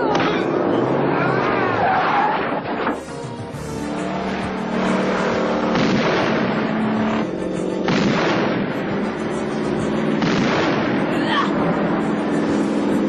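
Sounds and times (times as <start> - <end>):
loud bangs: 0.0 - 9.2, 9.8 - 11.2
car engine running: 0.0 - 13.0.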